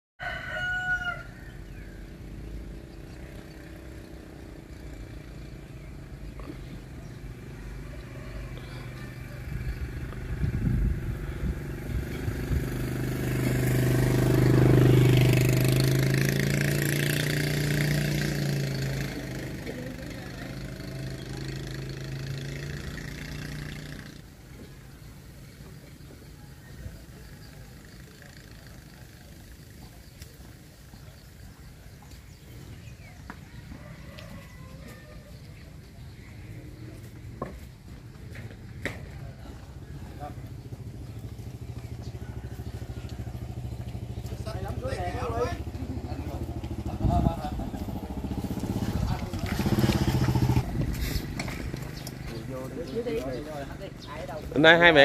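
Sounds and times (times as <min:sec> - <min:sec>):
vehicle engine passing: 0:01.5 - 0:24.4, 0:27.7 - 0:55.0.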